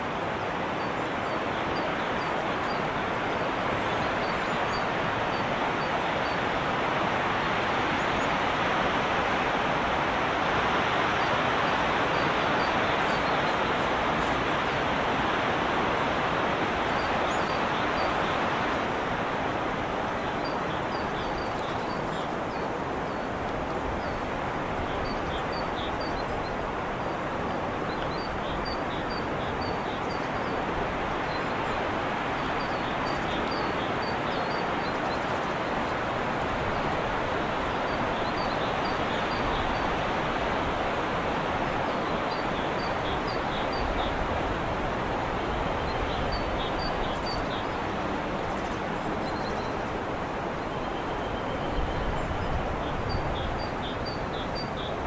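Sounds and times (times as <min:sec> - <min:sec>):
rushing outdoor background noise: 0:00.0 - 0:55.0.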